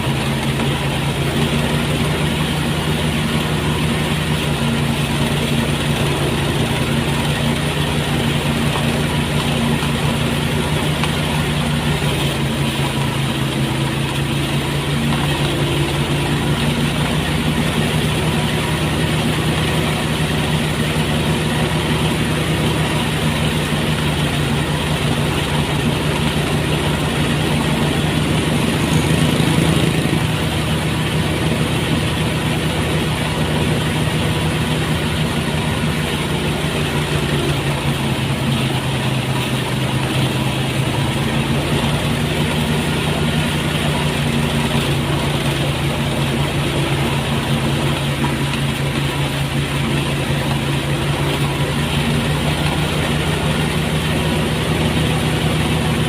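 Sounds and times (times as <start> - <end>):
threshing machine engine running: 0.0 - 56.0.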